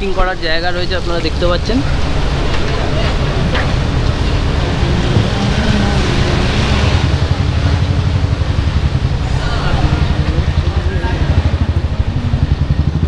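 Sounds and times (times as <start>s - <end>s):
vehicle traffic noise: 0.0s - 13.0s
wind buffeting microphone: 0.0s - 13.0s.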